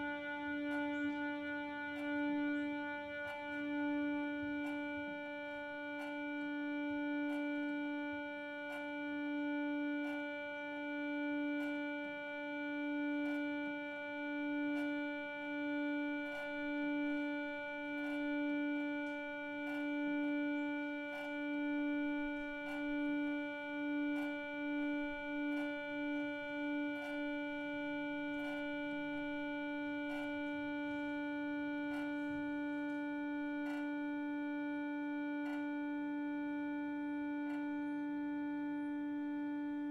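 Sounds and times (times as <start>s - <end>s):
sustained harmonium note: 0.0s - 39.9s.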